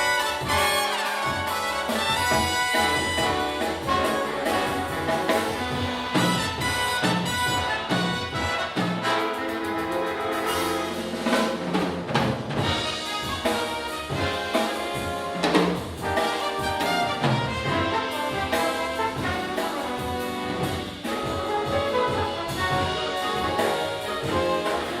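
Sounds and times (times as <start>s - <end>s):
brass section: 0.0s - 11.9s, 12.6s - 25.0s
drum kit: 0.0s - 25.0s
jazz big band playing: 0.0s - 25.0s.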